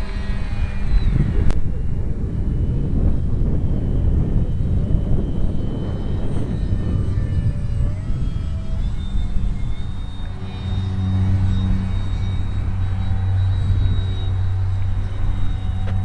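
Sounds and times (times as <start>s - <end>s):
rc airplane motor whine: 0.0s - 16.0s
wind buffeting microphone: 0.0s - 16.0s.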